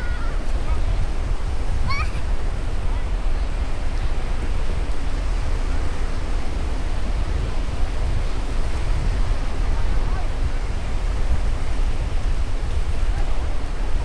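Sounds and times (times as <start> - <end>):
sea surf washing onto beach: 0.0 - 14.0
wind rumbling on microphone: 0.0 - 14.0.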